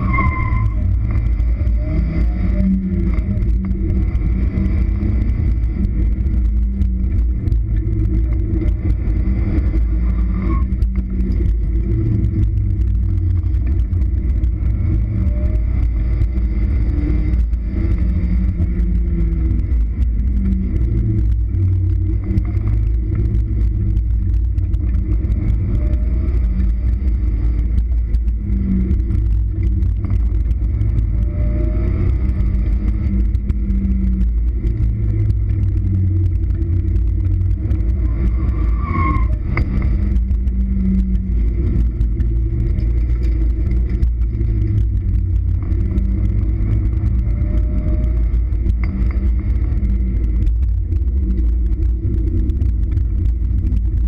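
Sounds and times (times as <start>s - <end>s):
car engine running under load: 0.0s - 54.0s.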